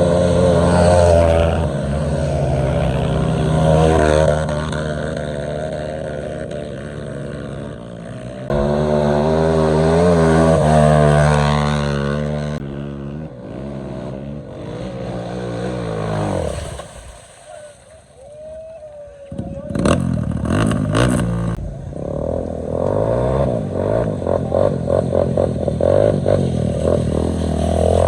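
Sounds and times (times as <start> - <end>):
motorcycle engines revving: 0.0 - 18.4, 19.0 - 28.0.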